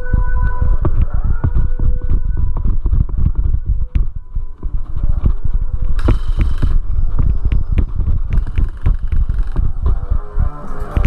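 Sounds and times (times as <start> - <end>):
gear knocking and thumping: 0.0 - 11.0.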